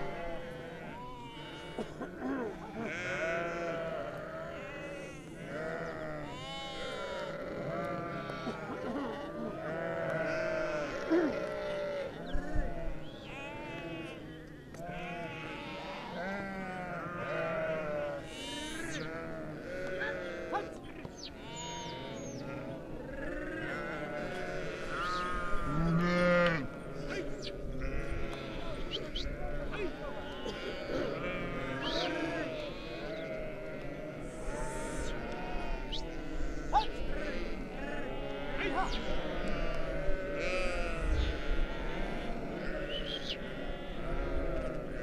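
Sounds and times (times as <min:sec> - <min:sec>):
sheep bleating: 0:00.0 - 0:45.0.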